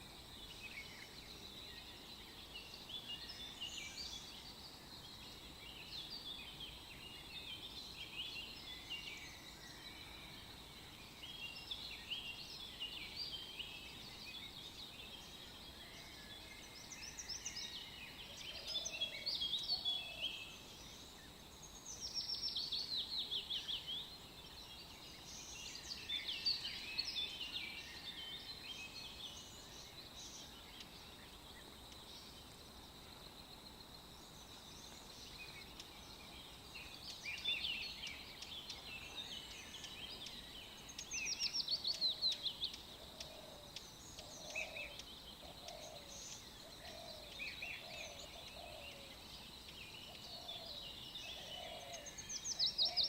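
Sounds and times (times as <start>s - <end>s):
background hiss: 0.0s - 53.0s
songbirds chirping and singing: 0.0s - 53.0s.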